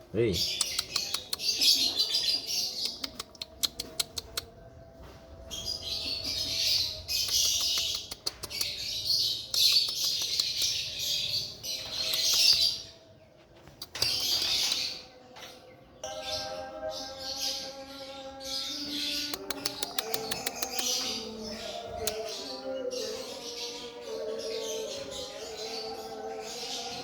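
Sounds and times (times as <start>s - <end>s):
birds chattering: 0.0s - 27.0s.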